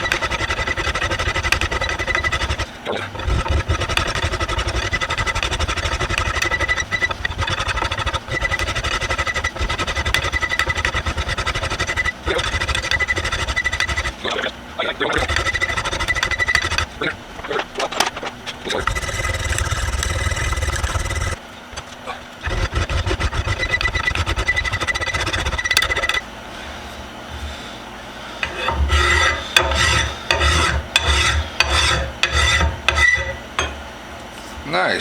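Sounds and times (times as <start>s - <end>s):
hand file rasping on metal: 0.0s - 14.5s, 15.1s - 21.4s, 22.4s - 26.2s, 28.4s - 33.5s.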